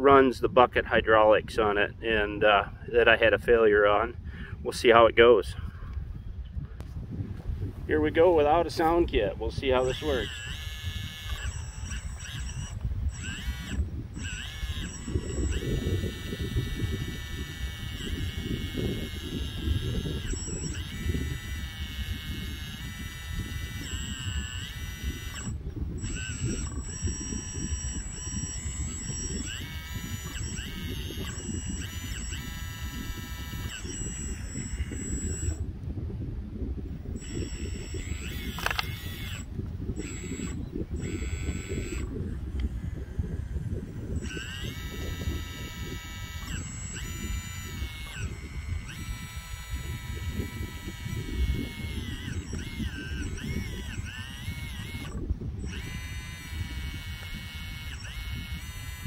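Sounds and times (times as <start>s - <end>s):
hydraulic pump whining: 0.0s - 59.0s
thin high whine: 0.0s - 59.0s.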